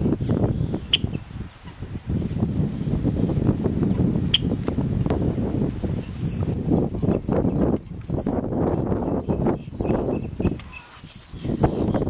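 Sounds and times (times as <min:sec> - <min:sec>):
low wind rumble on microphone: 0:00.0 - 0:12.0.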